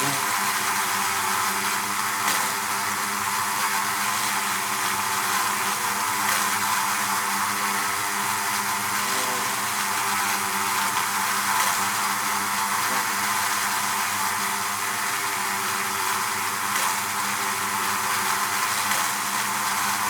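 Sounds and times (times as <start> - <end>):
bees buzzing at a hive: 0.0 - 20.0.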